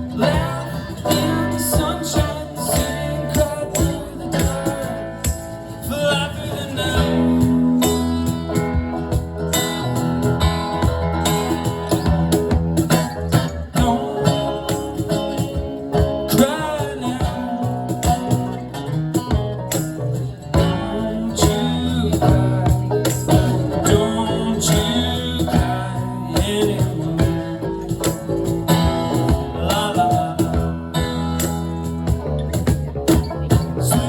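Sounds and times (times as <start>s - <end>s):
guitars strummed and picked: 0.0s - 34.0s
live band playing: 0.0s - 34.0s.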